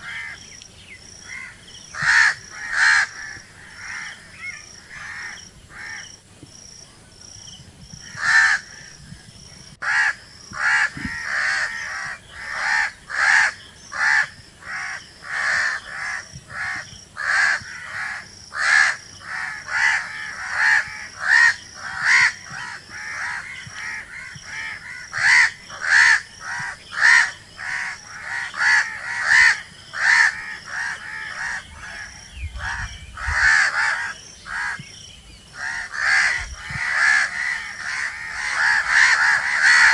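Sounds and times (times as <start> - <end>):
crows cawing: 0.0 - 0.4, 1.2 - 6.1, 8.1 - 8.9, 9.8 - 34.9, 35.6 - 39.9.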